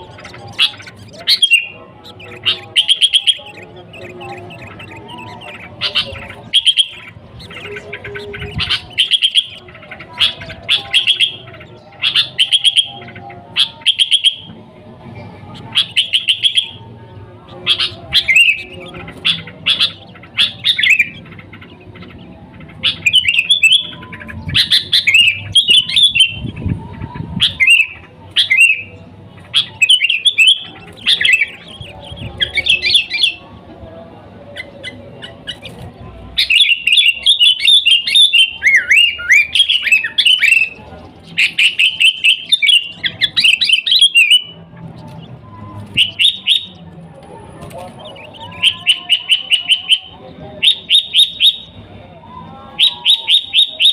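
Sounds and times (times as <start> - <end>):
bulbul singing: 0.0 - 53.9.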